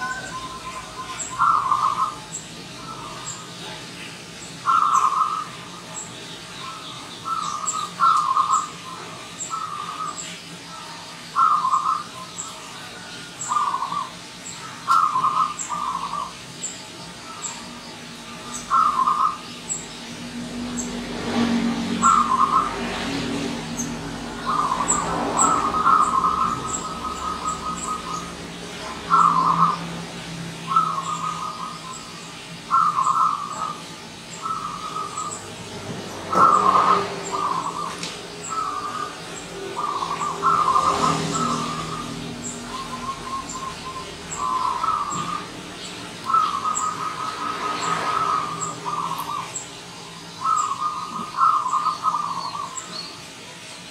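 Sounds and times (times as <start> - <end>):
dove cooing song: 0.0 - 3.8, 4.6 - 16.4, 18.4 - 19.8, 20.7 - 30.0, 30.6 - 35.6, 36.2 - 53.0.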